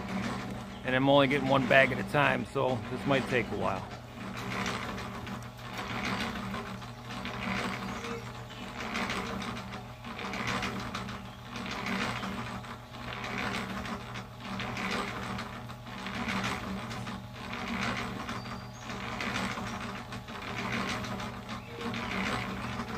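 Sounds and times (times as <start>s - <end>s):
cement mixer motor hum: 0.0s - 22.9s
wet concrete swishing in drum: 0.0s - 22.9s.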